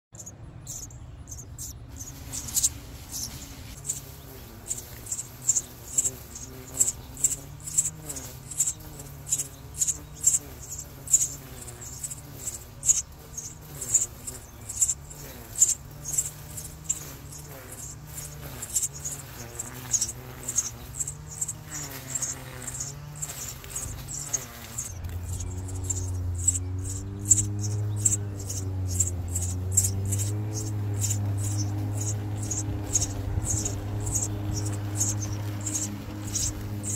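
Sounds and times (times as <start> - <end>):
nestlings chirping: 0.0 - 36.9.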